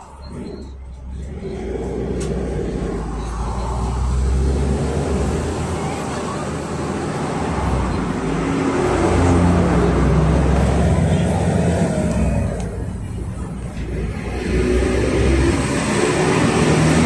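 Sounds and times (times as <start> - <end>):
diesel engine under load: 0.0 - 17.0
road noise: 0.0 - 17.0.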